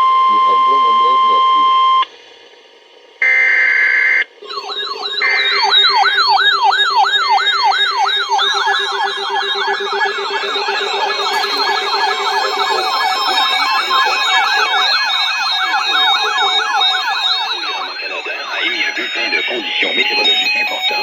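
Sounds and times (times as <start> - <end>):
electronic sirens yelping: 0.0 - 2.1, 3.2 - 21.0.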